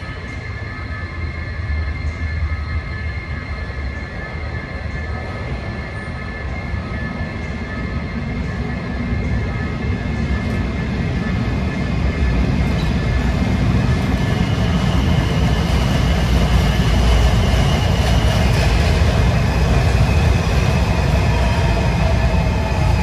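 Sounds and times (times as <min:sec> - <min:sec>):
train wheels rumbling on rail: 0:00.0 - 0:23.0
train whine: 0:00.0 - 0:23.0.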